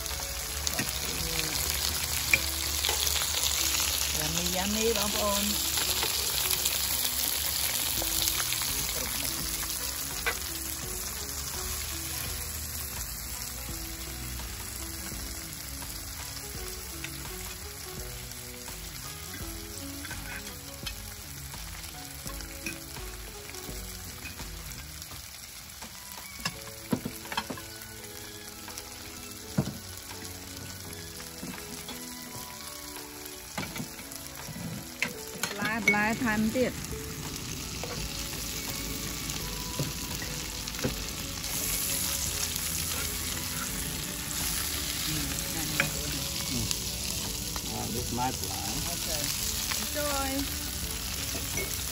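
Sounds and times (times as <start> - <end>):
food sizzling on a grill: 0.0 - 51.9.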